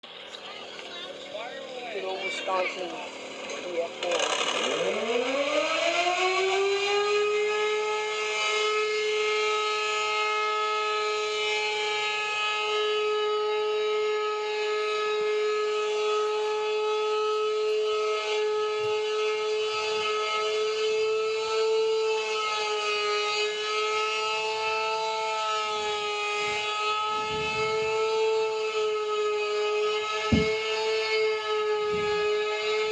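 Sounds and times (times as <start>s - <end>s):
alert siren steady tone: 0.1s - 32.9s.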